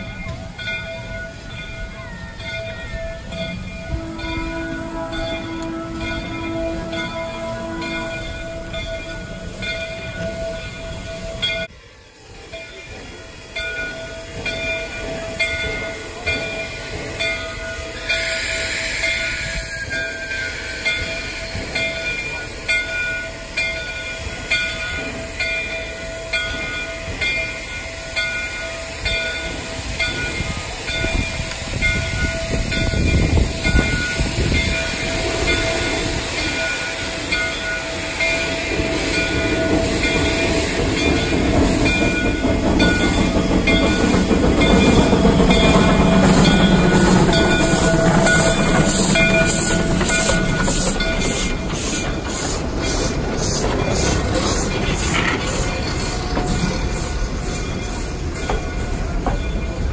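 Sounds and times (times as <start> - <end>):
locomotive bell ringing: 0.0 - 59.9
locomotive exhaust and steam venting: 0.0 - 59.9
steam hiss: 9.3 - 59.9.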